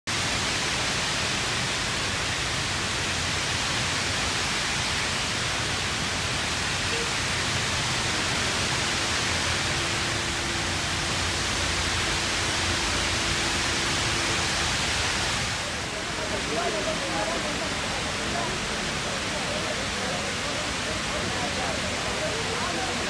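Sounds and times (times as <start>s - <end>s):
waterfall rushing: 0.1s - 23.0s.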